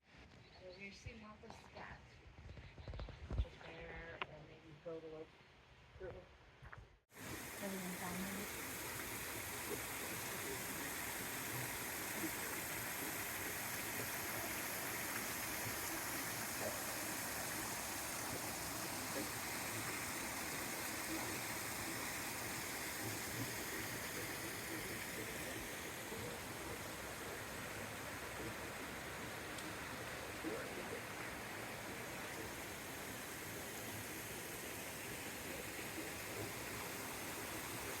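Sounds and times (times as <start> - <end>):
mountain water rushing: 7.1 - 38.0.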